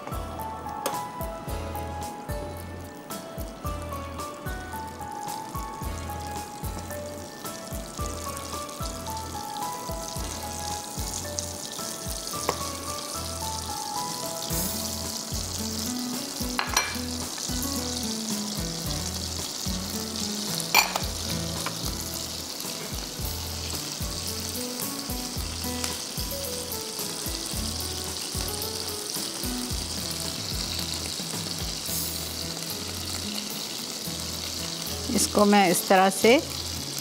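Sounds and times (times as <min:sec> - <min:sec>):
food sizzling in a pan: 0:00.0 - 0:37.0
low background music: 0:00.0 - 0:37.0.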